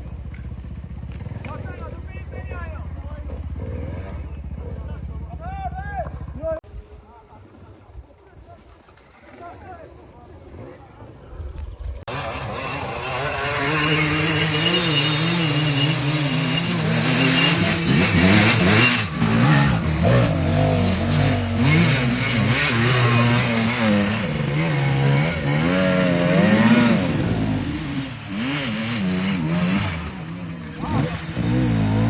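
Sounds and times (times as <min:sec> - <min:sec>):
motocross motorcycle engines revving: 0:00.0 - 0:06.6, 0:10.2 - 0:32.0.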